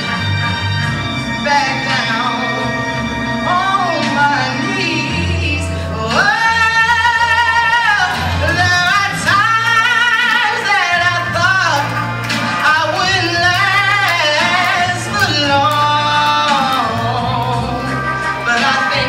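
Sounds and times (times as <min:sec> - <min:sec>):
person singing with vibrato: 0:01.1 - 0:19.0.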